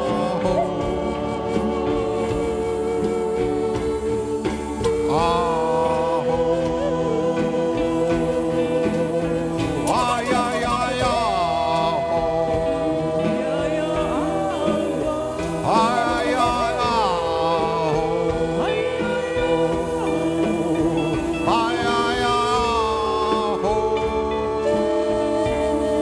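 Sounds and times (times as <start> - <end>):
live band music: 0.0 - 26.0.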